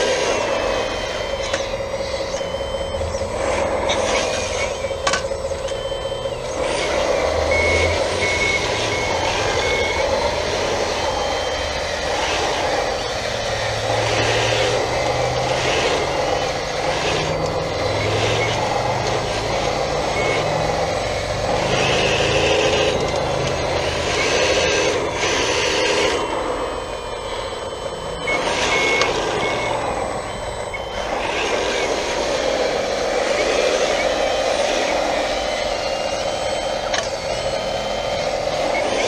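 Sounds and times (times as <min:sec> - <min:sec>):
electric hydraulic pump whine: 0:00.0 - 0:39.0
reversing beeps: 0:00.0 - 0:39.0
simulated diesel engine: 0:00.0 - 0:39.0.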